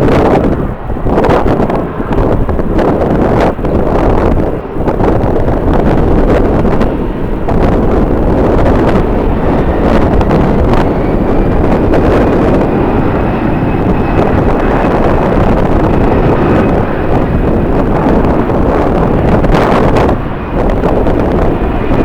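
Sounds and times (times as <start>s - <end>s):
jet engine whine: 0.0s - 22.0s
wind buffeting microphone: 0.0s - 22.0s.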